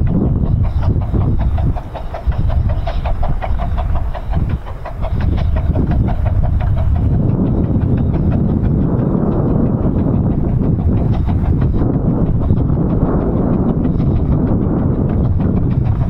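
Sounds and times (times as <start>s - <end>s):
steam locomotive exhaust beats: 0.0s - 16.0s
train rumbling past: 0.0s - 16.0s.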